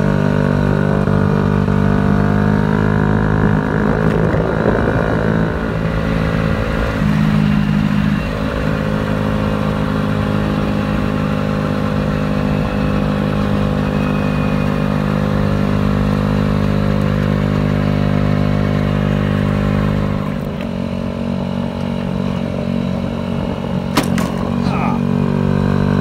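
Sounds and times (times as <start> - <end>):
scooter engine running: 0.0 - 26.0.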